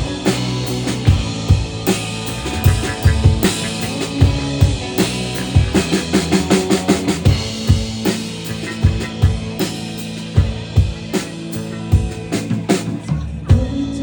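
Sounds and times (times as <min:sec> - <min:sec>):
instrumental band music: 0:00.0 - 0:14.0.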